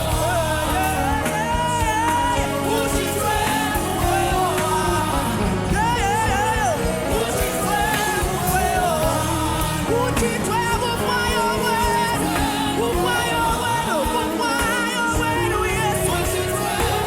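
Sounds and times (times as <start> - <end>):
band playing gospel music: 0.0 - 17.0.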